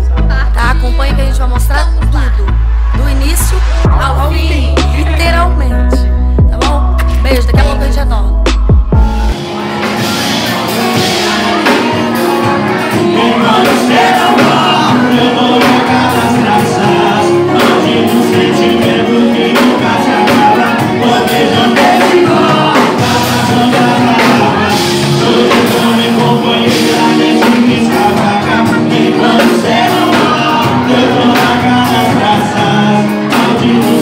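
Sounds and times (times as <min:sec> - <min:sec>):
song with vocals and beat: 0:00.0 - 0:34.0.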